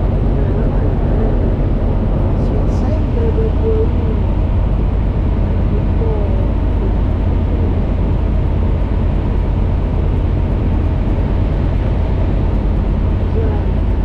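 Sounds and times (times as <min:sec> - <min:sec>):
propeller engine droning: 0:00.0 - 0:14.0.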